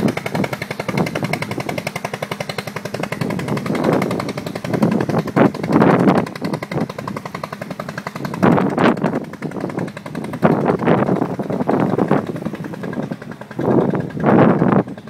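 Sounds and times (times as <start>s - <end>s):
boat engine chugging: 0.0s - 15.0s
wind buffeting microphone: 0.0s - 15.0s.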